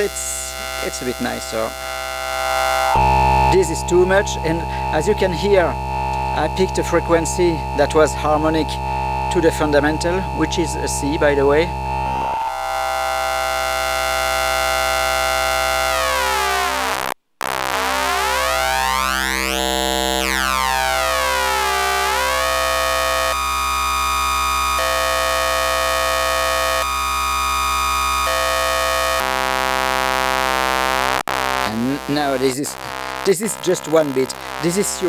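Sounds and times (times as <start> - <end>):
buzzy synthesizer tone: 0.0 - 35.0.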